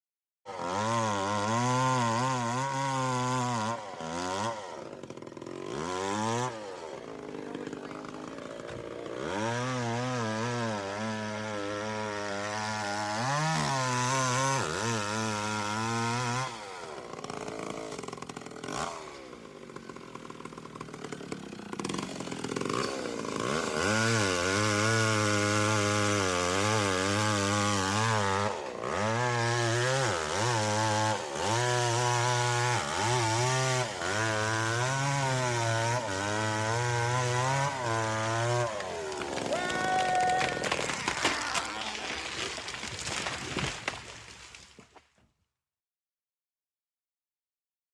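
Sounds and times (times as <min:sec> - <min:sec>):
chainsaw engine revving: 0:00.5 - 0:44.5.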